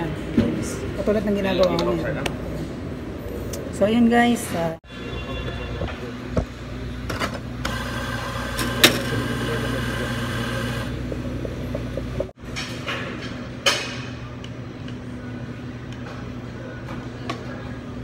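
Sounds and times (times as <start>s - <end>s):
low hum of cafe equipment: 0.0s - 18.0s.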